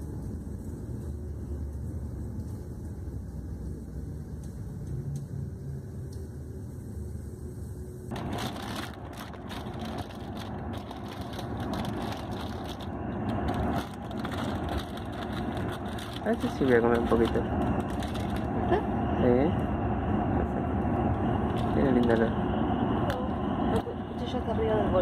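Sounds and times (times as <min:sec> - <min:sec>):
engine and tyre rumble: 0:00.0 - 0:25.0
road and wind noise: 0:00.0 - 0:25.0.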